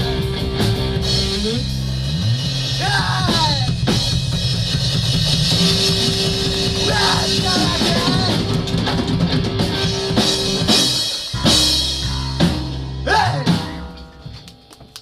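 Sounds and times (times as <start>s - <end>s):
live punk rock band: 0.0s - 15.0s.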